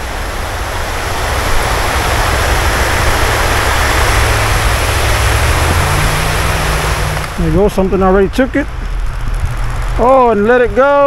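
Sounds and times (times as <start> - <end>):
low rumble: 0.0 - 11.0
water rushing over weir: 0.0 - 11.0.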